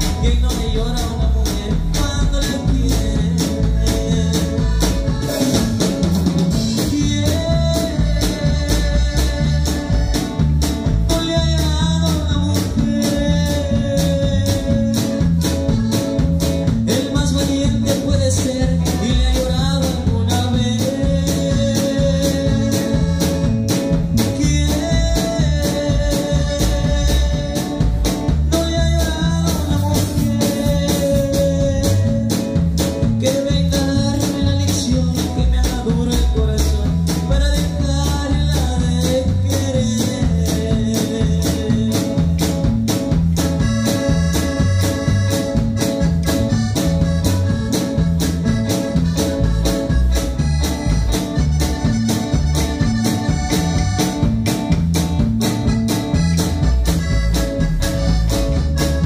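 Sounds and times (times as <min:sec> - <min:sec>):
live band playing upbeat groove: 0:00.0 - 0:59.0.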